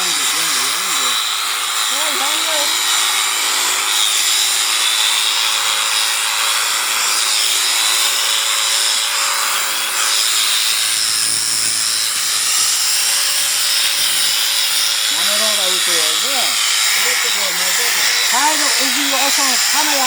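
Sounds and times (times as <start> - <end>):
electric sheep shears whining: 0.0 - 20.0.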